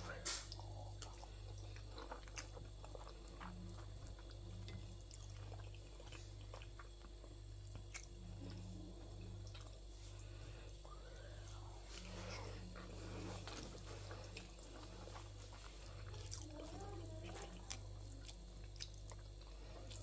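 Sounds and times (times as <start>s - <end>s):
low background hum: 0.0s - 20.0s
person chewing: 0.3s - 10.9s, 11.8s - 20.0s.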